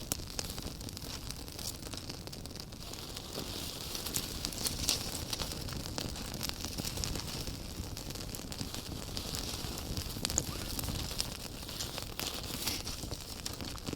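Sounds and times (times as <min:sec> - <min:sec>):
campfire crackling and popping: 0:00.0 - 0:13.9.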